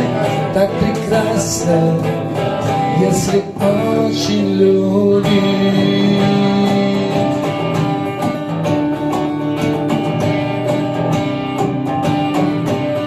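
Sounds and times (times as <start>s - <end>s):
guitar strummed: 0.0s - 13.0s.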